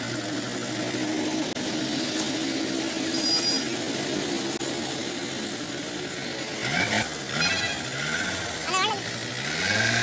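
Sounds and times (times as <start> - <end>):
vehicles passing: 0.0 - 10.0.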